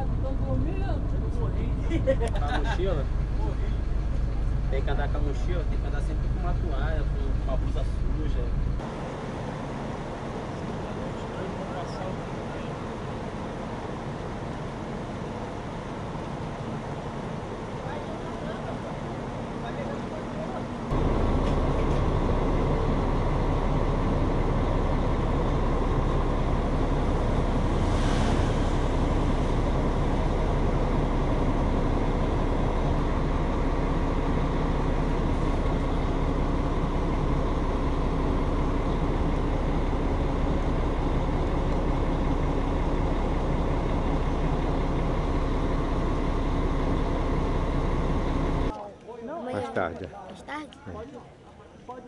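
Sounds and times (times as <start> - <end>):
bus engine droning: 0.0 - 48.8.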